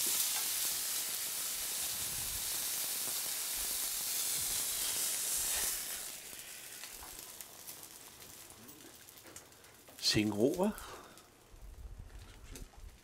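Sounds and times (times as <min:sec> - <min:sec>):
fish sizzling in a hot pan: 0:00.0 - 0:11.2.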